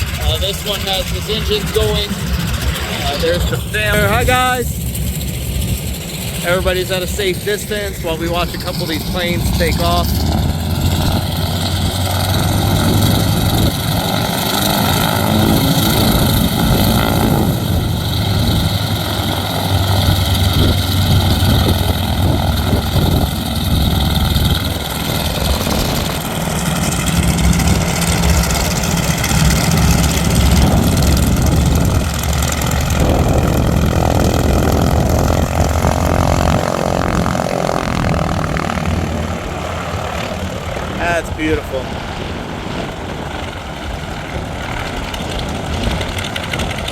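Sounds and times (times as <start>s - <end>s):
aircraft engines running: 0.0s - 46.9s.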